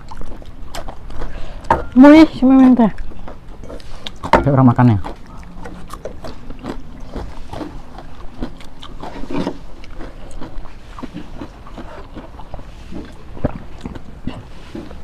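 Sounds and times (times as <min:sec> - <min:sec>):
person chewing: 0:00.0 - 0:01.8, 0:02.9 - 0:15.0.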